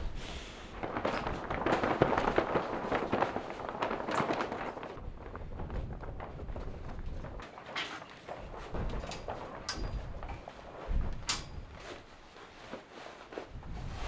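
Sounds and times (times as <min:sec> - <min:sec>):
membrane flapping and snapping: 0:00.0 - 0:14.0.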